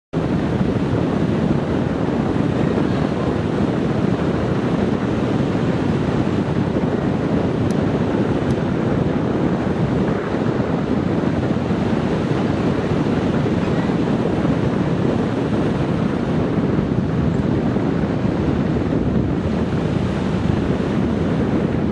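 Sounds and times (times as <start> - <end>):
ocean surf: 0.2 - 21.9
wind on microphone: 0.2 - 21.9.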